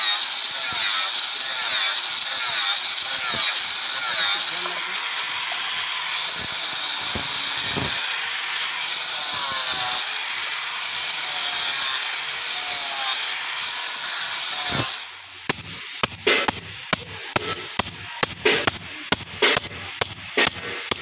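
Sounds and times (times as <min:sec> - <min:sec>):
power grinder grinding steel: 0:00.0 - 0:21.0.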